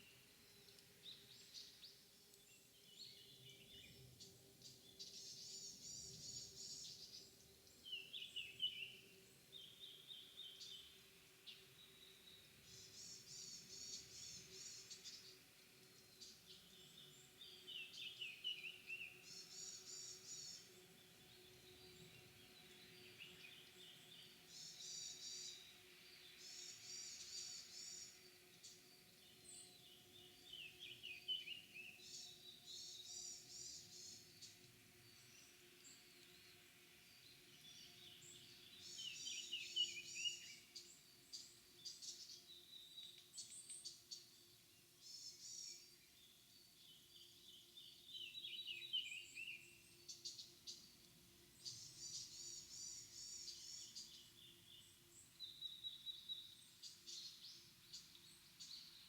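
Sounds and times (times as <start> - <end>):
small songbirds singing: 0.0 - 59.0.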